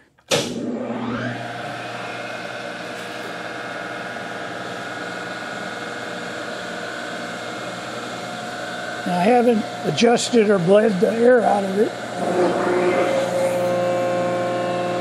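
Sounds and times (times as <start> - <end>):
milling machine motor whining: 0.5 - 15.0.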